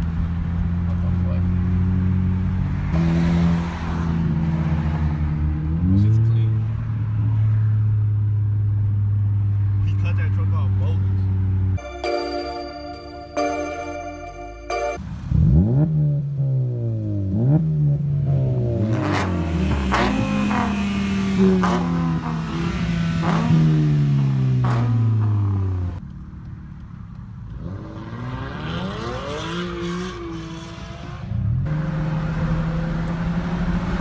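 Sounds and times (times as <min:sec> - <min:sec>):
car engines revving: 0:00.0 - 0:11.8, 0:15.0 - 0:34.0
moving car engine hum: 0:00.0 - 0:11.8, 0:14.7 - 0:34.0.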